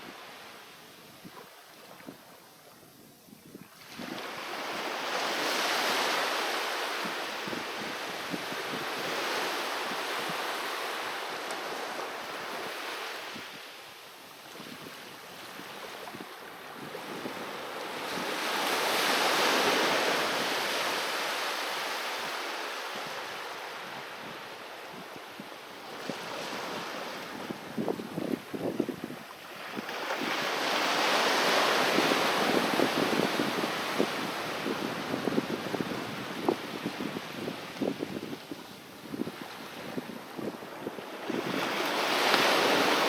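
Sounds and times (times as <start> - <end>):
sea waves breaking on beach: 3.7 - 43.0.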